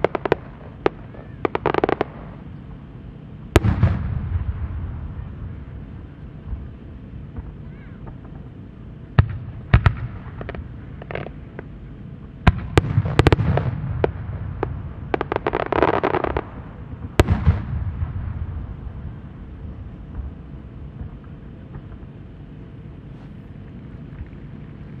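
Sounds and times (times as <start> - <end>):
fireworks bangs: 0.0 - 2.8, 3.5 - 11.7, 12.4 - 22.6
fireworks crackle: 0.0 - 11.8, 12.4 - 25.0.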